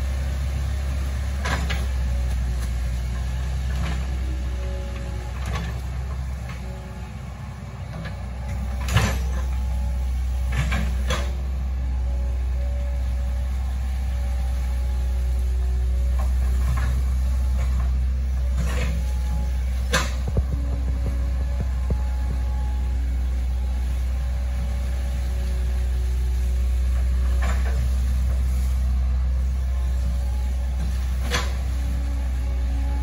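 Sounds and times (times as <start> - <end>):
excavator diesel engine rumbling: 0.0 - 33.0.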